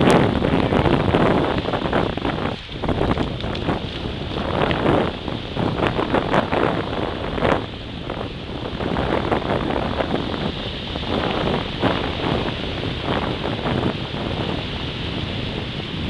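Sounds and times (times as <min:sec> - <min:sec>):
small waves breaking on shore: 0:00.0 - 0:16.0
wind buffeting microphone: 0:00.0 - 0:16.0.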